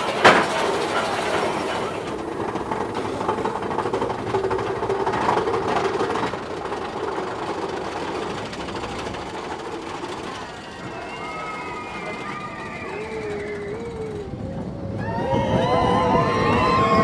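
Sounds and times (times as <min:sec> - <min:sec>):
roller coaster cars clattering on track: 0:00.0 - 0:17.0.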